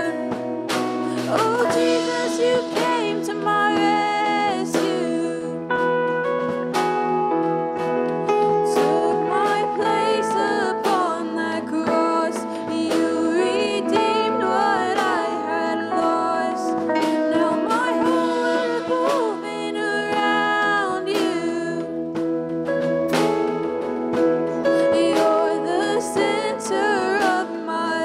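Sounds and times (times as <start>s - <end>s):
person singing: 0.0s - 6.0s, 8.3s - 22.2s, 24.6s - 28.0s
live worship band playing: 0.0s - 28.0s.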